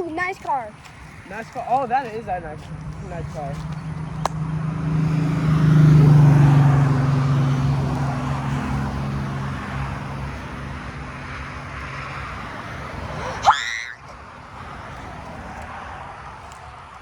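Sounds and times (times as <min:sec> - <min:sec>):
car driving past: 0:02.4 - 0:16.8.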